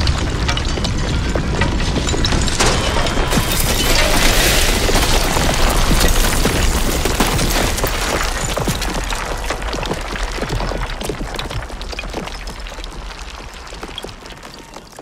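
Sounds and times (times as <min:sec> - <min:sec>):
low earthquake rumble: 0:00.0 - 0:14.4
falling bricks and rubble clattering: 0:00.0 - 0:15.0.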